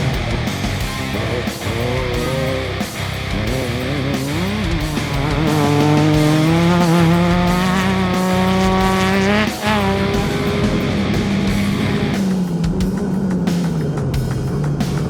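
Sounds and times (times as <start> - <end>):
race vehicle engine accelerating: 0.0 - 15.0
rock music: 0.0 - 15.0.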